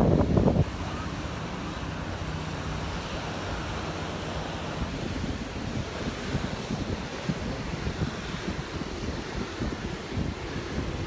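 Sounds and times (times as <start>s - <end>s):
loud rush of noise: 0.0s - 11.0s
ocean surf washing: 0.0s - 11.0s
wind buffeting microphone: 0.0s - 11.0s.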